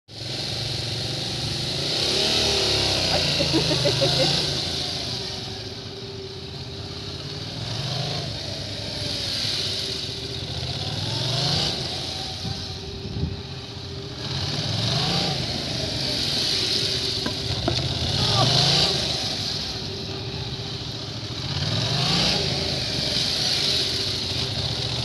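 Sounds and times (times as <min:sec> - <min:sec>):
motorcycle engine revving: 0:00.1 - 0:25.0.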